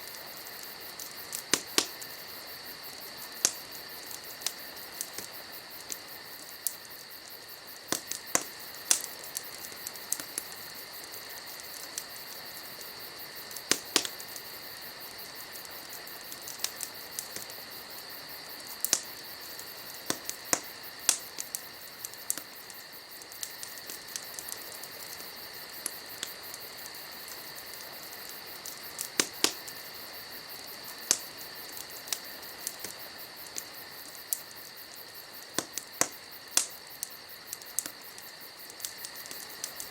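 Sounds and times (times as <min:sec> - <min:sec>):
crickets chirring: 0:00.0 - 0:39.9
wood fire crackling and popping: 0:00.0 - 0:39.9.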